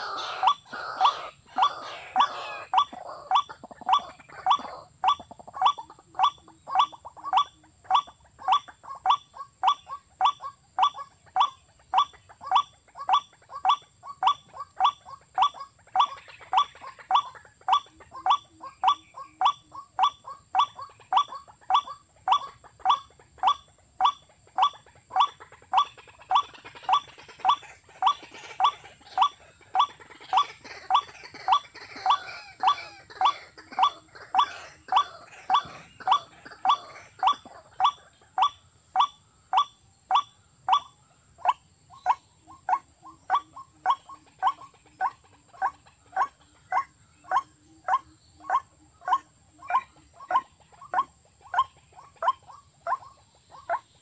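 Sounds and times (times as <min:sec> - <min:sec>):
waterhen harsh calls: 0:00.0 - 0:53.8.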